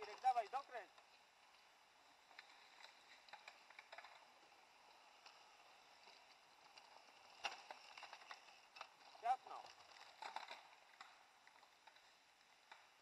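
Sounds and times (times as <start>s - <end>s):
bike clicks and rattles: 0.0s - 13.0s.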